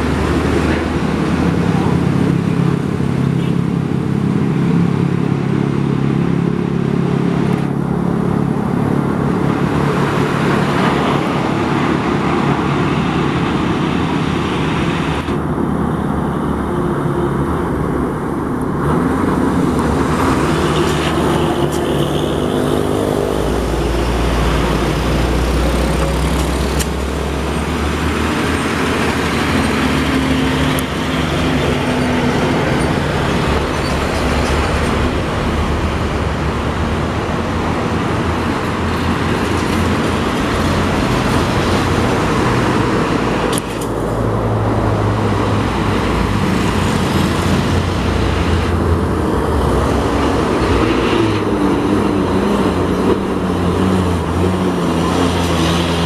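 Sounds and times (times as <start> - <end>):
cars passing: 0.0 - 56.0
diesel trucks passing: 0.0 - 56.0
tyres on asphalt: 0.0 - 56.0.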